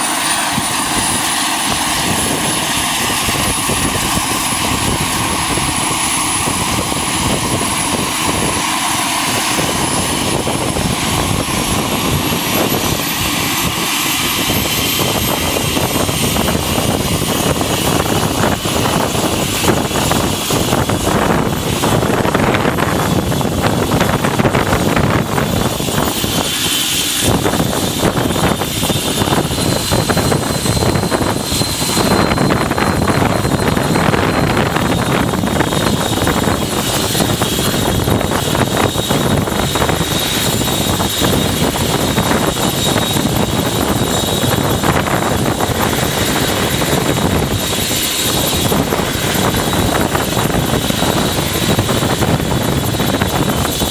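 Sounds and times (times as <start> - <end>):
helicopter rotor and turbine noise: 0.0 - 53.9
high turbine whine: 0.0 - 53.9.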